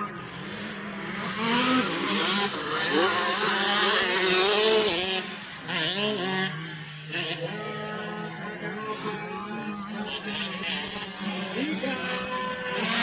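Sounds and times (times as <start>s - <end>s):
motocross bikes racing past: 0.0s - 13.0s.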